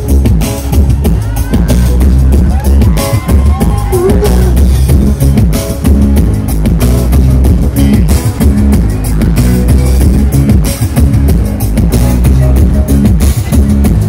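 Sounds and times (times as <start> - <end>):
live pop band playing: 0.0 - 14.0.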